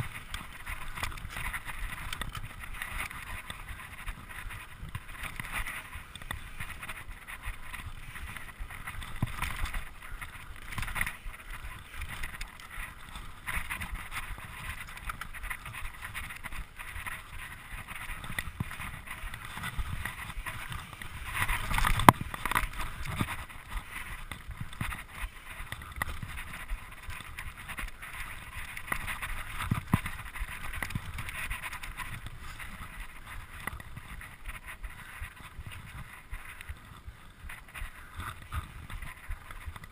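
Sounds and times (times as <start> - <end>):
bike rattling over bumps: 0.0 - 39.9
tyre noise on dirt: 0.0 - 39.9
wind on microphone: 0.0 - 39.9.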